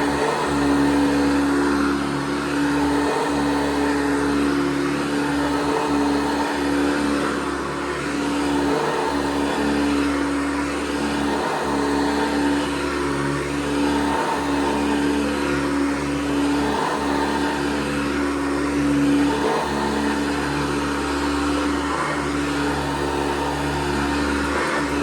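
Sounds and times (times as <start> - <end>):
upright vacuum cleaner motor hum: 0.0 - 25.0.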